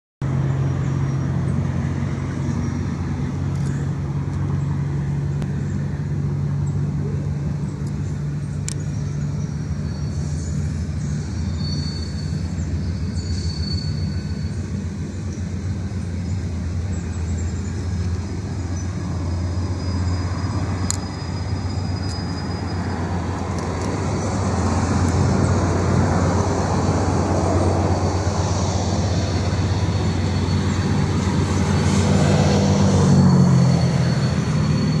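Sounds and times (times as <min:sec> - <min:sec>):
diesel locomotive engine drone: 0:00.2 - 0:35.0.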